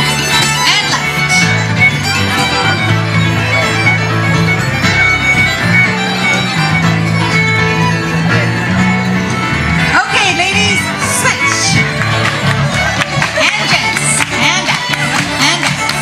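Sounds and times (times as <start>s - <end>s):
bass line: 0.0s - 16.0s
fiddle: 0.0s - 16.0s
folk band dance tune: 0.0s - 16.0s.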